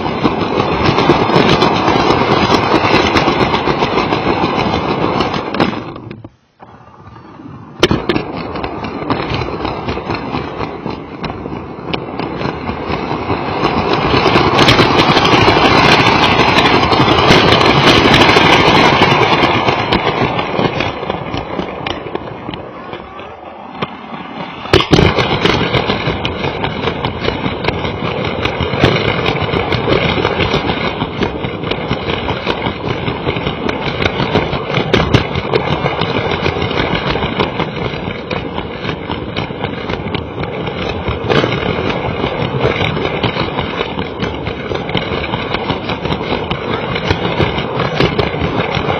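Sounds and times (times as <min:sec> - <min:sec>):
toy train clattering on plastic track: 0:00.0 - 0:06.2, 0:07.8 - 0:23.0, 0:24.3 - 0:48.9.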